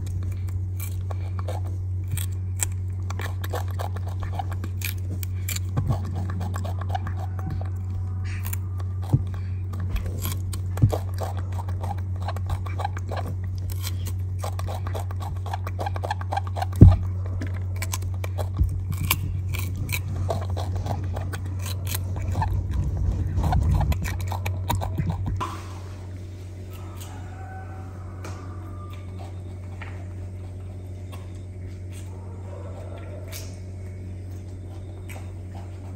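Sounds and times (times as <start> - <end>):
monkey chewing cucumber: 0.0 - 25.4, 28.5 - 35.9
steady low hum: 0.0 - 35.9.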